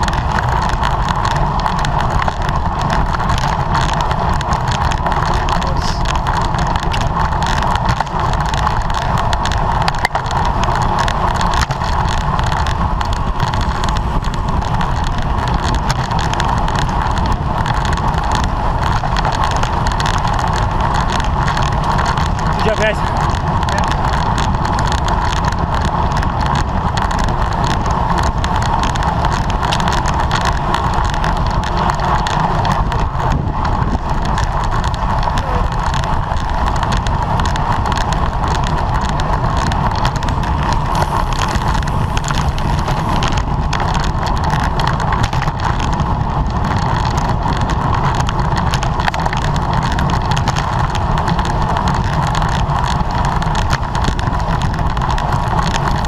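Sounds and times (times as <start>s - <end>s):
constant hum: 0.0s - 56.0s
road noise: 0.0s - 56.0s
wind rush on microphone: 0.0s - 56.0s.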